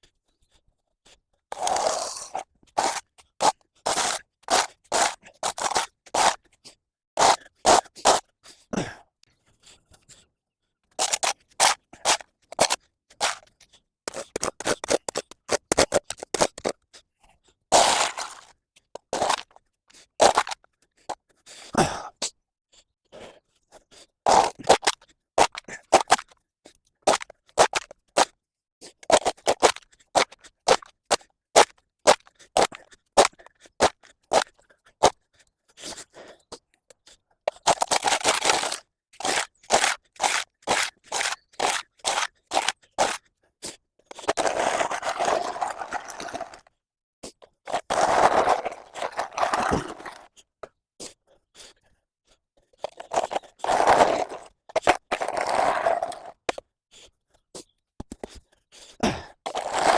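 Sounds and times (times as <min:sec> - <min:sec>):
hand tool scraping paved path: 0:01.1 - 0:09.0, 0:10.9 - 0:22.0, 0:23.2 - 0:26.4, 0:27.1 - 0:50.4, 0:52.7 - 0:56.6, 0:59.1 - 0:59.9.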